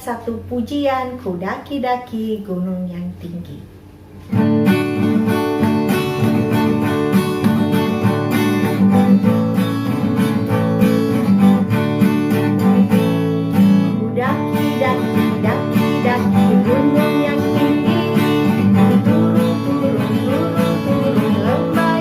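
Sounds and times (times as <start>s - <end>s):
acoustic guitar strumming: 4.2s - 22.0s.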